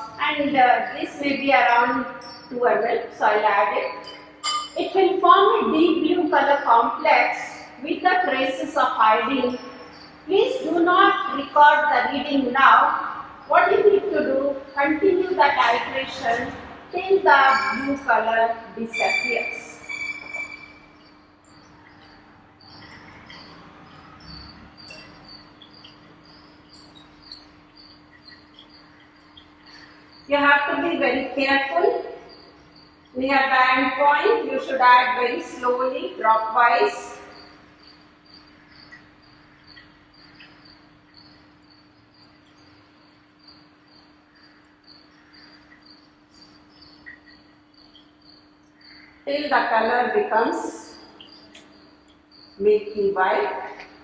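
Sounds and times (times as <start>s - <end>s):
faint high-pitched chirps: 5.6s - 54.0s.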